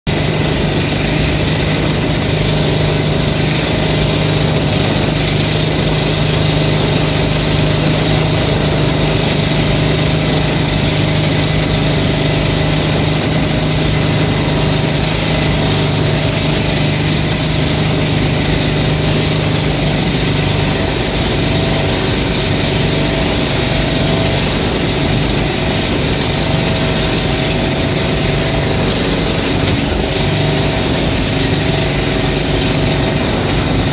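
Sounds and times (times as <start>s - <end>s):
boat engines running: 0.1s - 33.9s
water rushing along hull: 0.1s - 33.9s.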